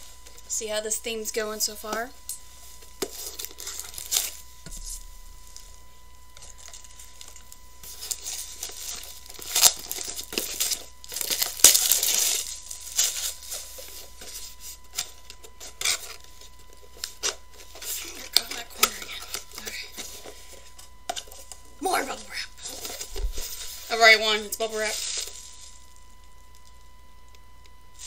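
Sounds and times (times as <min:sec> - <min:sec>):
plastic packaging crinkling and tearing: 0:02.8 - 0:26.9.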